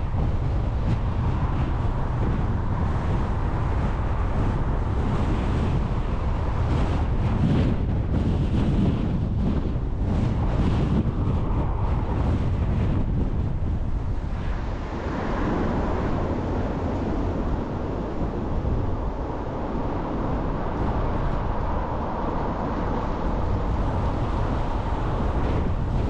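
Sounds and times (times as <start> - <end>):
car road and engine noise: 0.0 - 26.0
wind buffeting microphone: 0.0 - 26.0.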